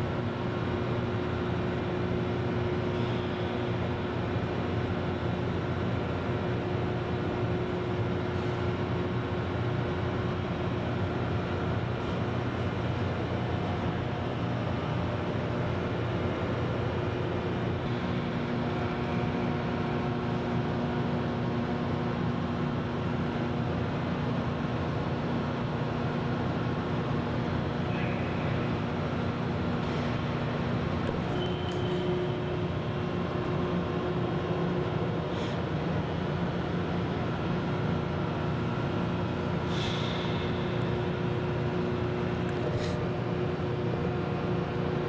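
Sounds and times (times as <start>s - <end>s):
crane mechanical drone: 0.0s - 45.0s.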